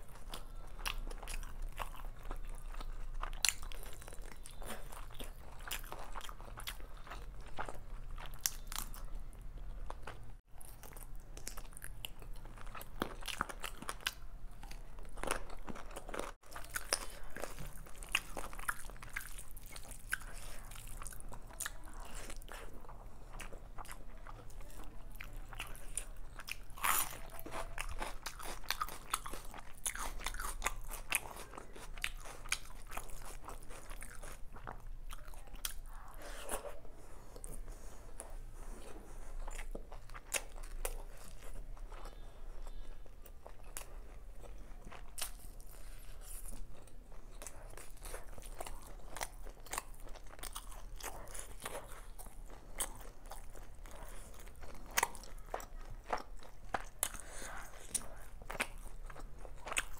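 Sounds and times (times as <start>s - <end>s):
close chewing with crunches: 0.0s - 59.9s.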